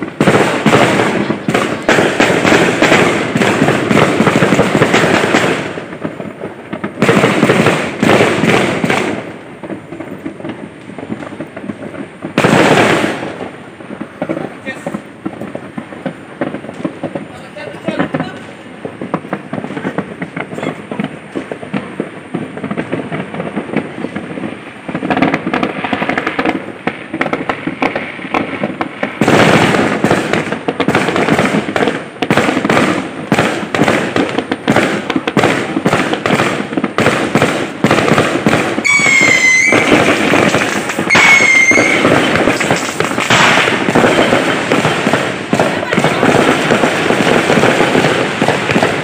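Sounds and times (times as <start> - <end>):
fireworks crackling: 0.0 - 49.0
high firework whistles: 0.0 - 49.0.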